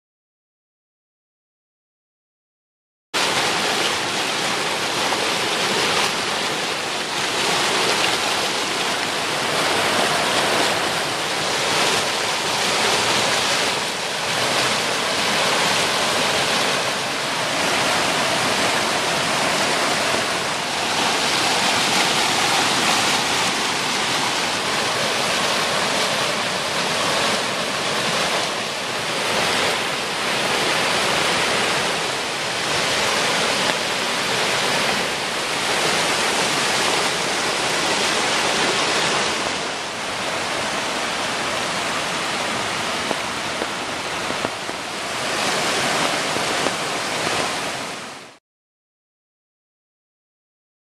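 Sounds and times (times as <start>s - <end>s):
brook rushing over rocks: 3.2s - 48.0s.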